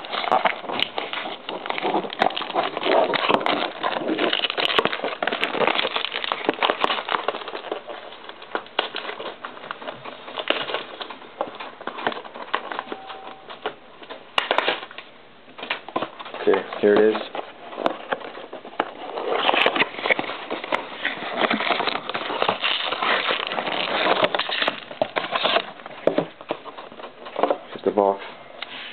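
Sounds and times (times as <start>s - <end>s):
plastic wrap crinkling: 0.0s - 28.9s.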